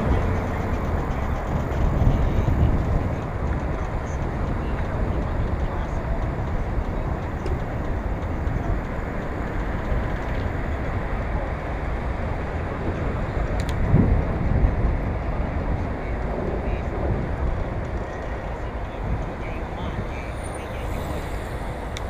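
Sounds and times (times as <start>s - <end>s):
bicycle rolling noise: 0.0s - 22.0s
highway traffic: 0.0s - 22.0s
wind rumble: 0.0s - 22.0s.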